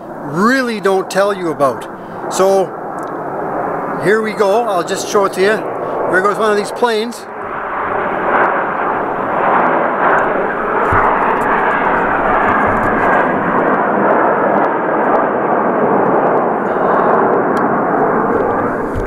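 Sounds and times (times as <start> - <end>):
jet flying overhead: 0.0 - 19.0.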